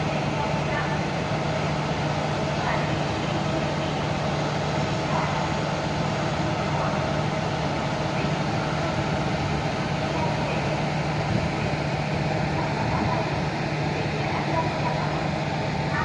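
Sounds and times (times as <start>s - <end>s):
train equipment humming: 0.0s - 16.0s.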